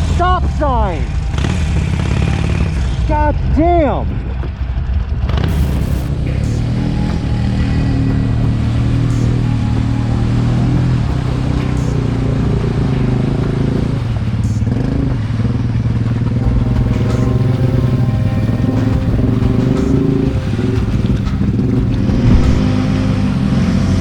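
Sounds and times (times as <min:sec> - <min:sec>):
atv engines running: 0:04.1 - 0:24.0.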